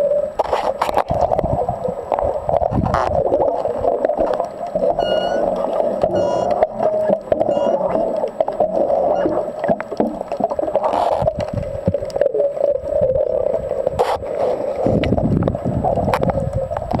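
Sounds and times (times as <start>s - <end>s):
muffled underwater hum: 0.0s - 17.0s.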